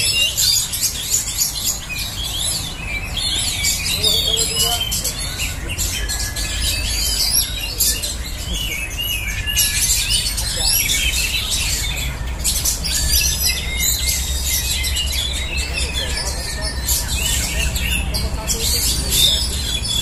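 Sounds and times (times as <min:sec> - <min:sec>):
birds singing in chorus: 0:00.0 - 0:20.0.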